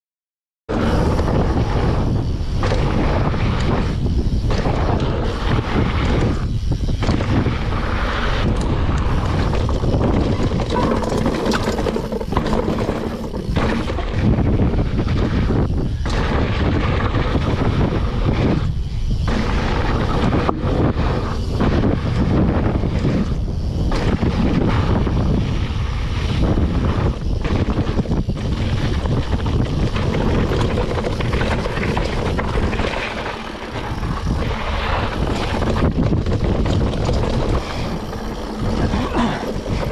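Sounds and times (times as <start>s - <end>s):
bike tyre roar and rattle: 0.7s - 39.9s
wind rushing over microphone: 0.7s - 39.9s.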